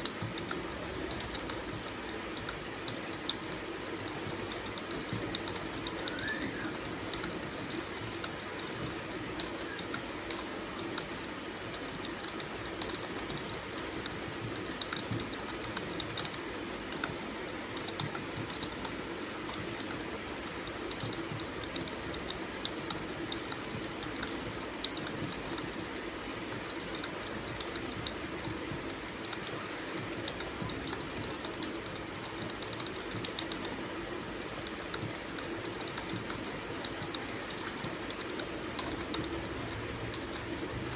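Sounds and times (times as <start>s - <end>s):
fast typing on computer keyboard: 0.0s - 40.9s
steady background hiss: 0.0s - 40.9s.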